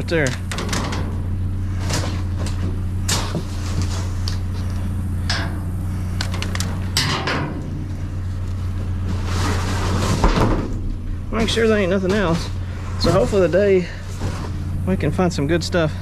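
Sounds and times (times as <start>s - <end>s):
scrap aluminum clanking: 0.0s - 14.8s
steady low hum: 0.0s - 16.0s.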